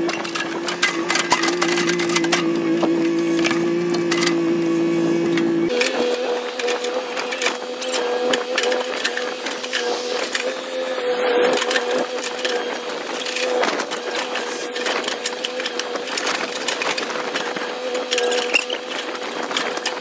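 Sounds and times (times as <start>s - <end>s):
excavator engine droning: 0.0s - 20.0s.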